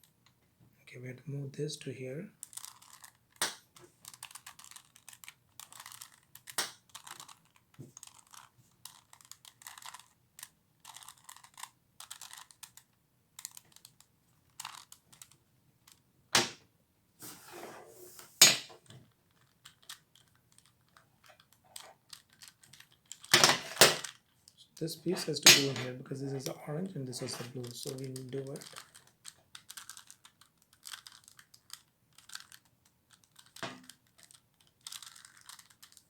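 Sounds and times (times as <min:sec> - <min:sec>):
puzzle cube plastic clicks: 0:02.4 - 0:16.6, 0:19.1 - 0:36.0.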